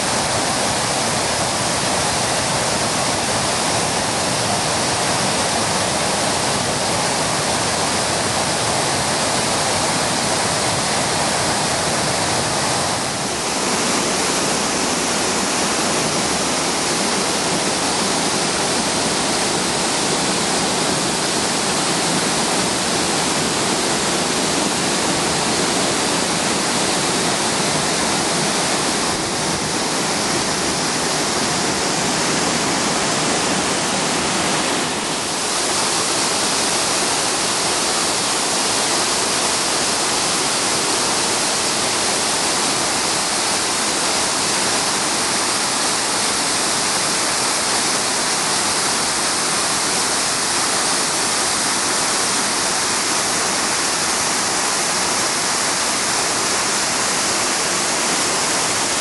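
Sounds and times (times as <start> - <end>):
waterfall rushing water: 0.0 - 59.0.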